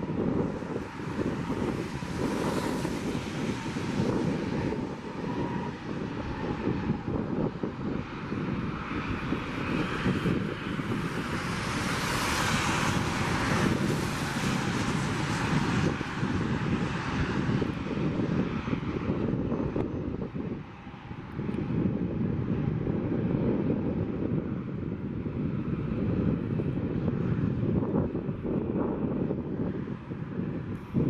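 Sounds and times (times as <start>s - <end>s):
jet engines taxiing: 0.0s - 31.0s.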